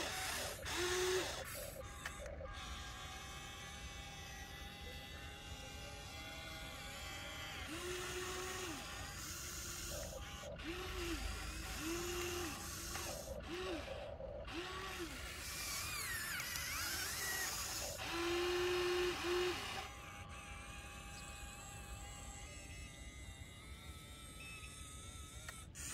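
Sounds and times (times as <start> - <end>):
electric motors whining: 0.0 - 25.9.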